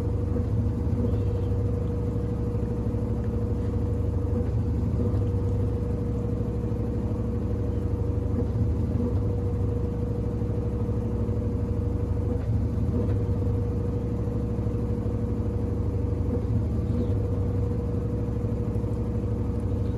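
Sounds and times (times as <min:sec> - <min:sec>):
washing machine running: 0:00.0 - 0:19.9.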